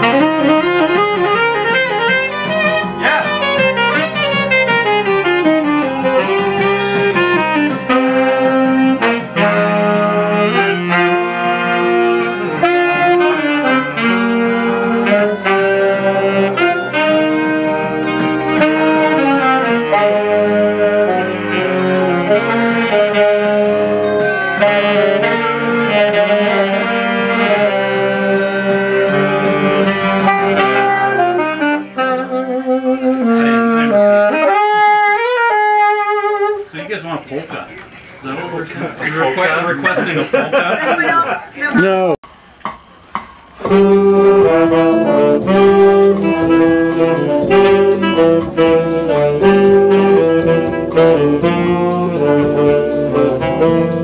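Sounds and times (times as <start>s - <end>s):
band accompaniment with beat: 0.0s - 36.8s, 42.2s - 54.0s
saxophone melody: 0.0s - 37.3s, 43.6s - 54.0s.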